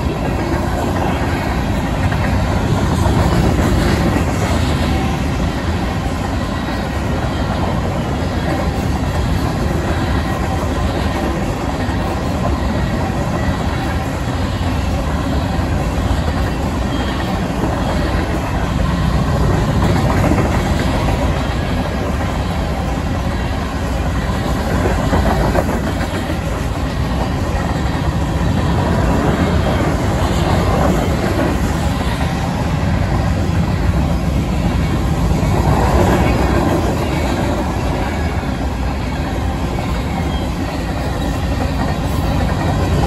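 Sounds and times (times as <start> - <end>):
freight train wheels rumbling on rails: 0.0 - 43.0.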